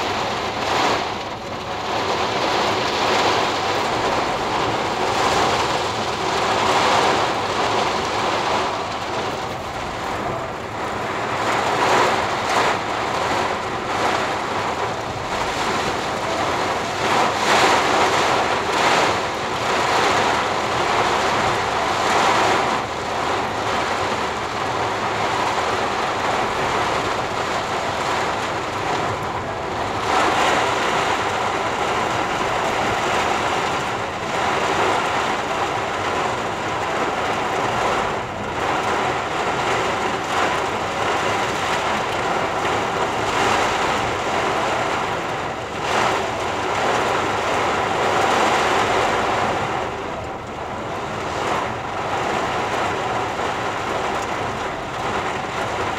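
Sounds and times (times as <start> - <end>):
heavy rain on a car roof: 0.0 - 55.9.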